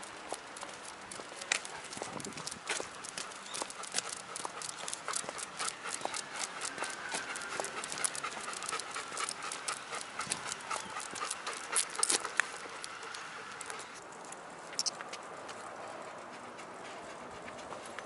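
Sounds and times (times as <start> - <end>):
dog claws tapping on asphalt: 0.0 - 15.6.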